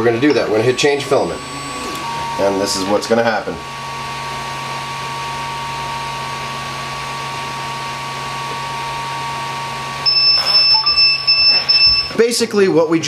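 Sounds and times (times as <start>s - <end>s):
stepper motor whine: 0.0s - 12.2s.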